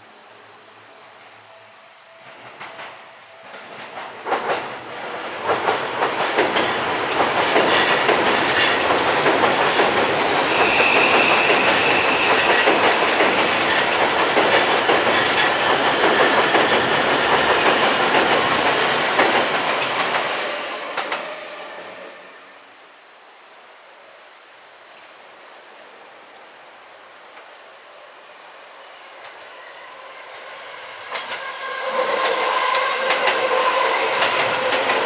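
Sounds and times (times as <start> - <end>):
train rumbling over bridge: 0.0 - 35.0.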